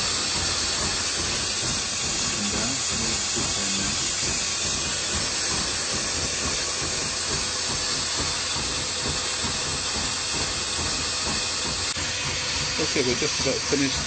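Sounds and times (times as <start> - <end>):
oven running with rushing noise: 0.0 - 14.0.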